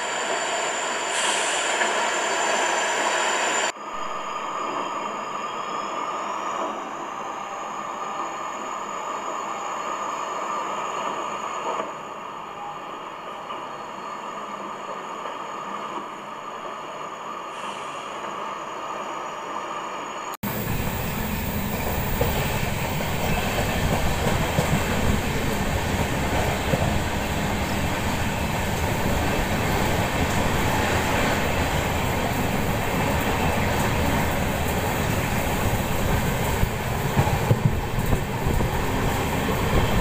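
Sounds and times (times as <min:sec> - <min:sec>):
train wheels on track: 0:04.4 - 0:40.0.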